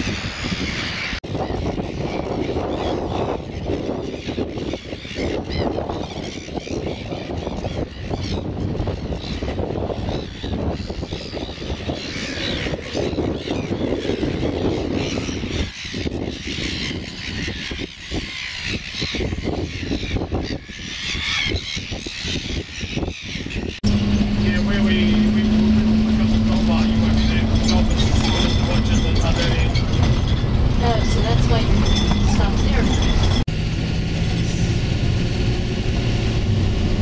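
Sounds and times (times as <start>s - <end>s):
gulls calling: 0.0s - 33.6s
wind rumbling on microphone: 0.0s - 37.0s.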